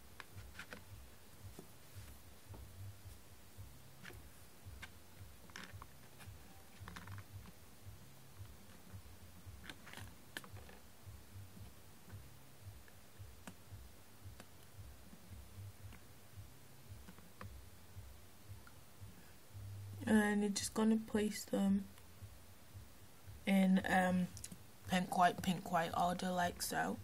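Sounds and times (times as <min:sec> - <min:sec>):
low hum: 0:00.8 - 0:27.0.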